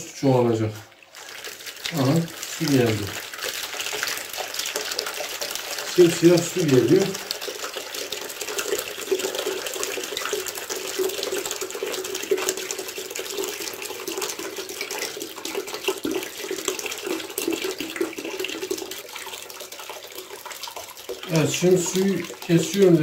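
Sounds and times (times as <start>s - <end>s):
water pouring into a basin: 0.0s - 23.0s.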